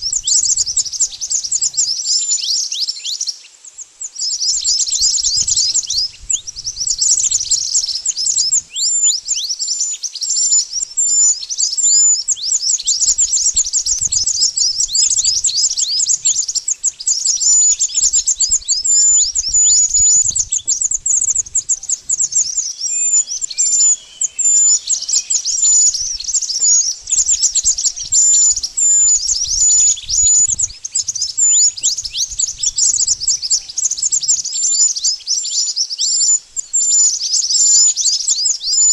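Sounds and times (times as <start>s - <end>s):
bird chirping rapidly: 0.0s - 2.5s, 4.2s - 38.9s.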